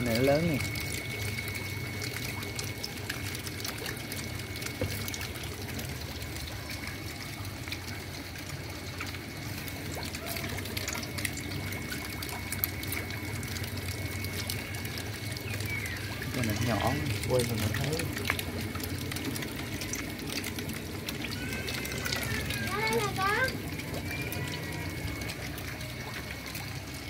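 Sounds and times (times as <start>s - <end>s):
water pouring into tank: 0.0s - 27.0s.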